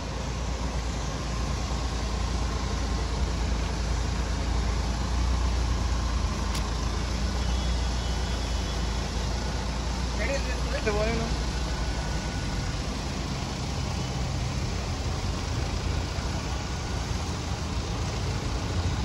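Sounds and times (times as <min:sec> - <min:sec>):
road and tyre noise in car: 0:00.0 - 0:19.0.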